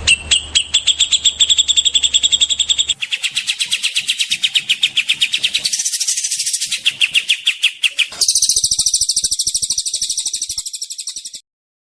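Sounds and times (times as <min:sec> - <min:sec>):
songbird singing rapid notes: 0:00.0 - 0:11.4.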